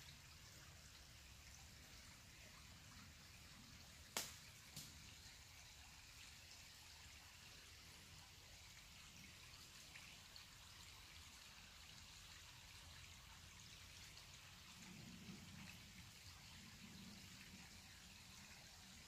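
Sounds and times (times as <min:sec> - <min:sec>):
small brook trickling: 0:00.0 - 0:19.0.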